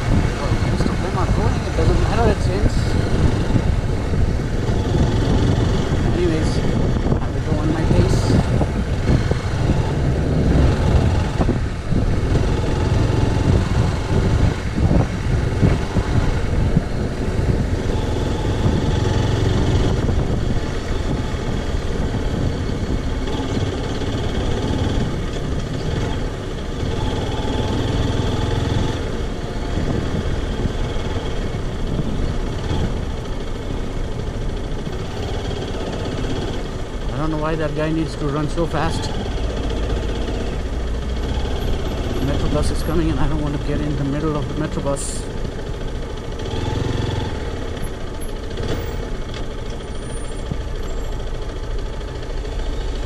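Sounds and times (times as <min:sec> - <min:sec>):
motorcycle engine rumble: 0:00.0 - 0:53.0.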